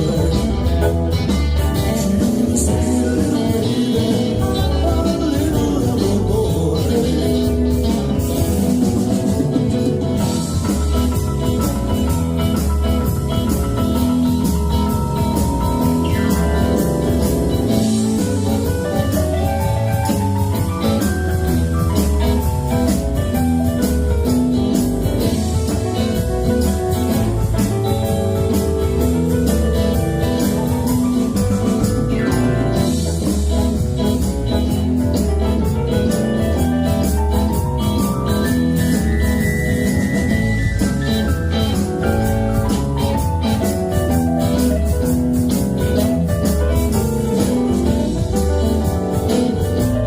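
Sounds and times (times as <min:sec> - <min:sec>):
bass: 0:00.0 - 0:50.0
drum kit beat: 0:00.0 - 0:50.0
keyboard: 0:00.0 - 0:50.0.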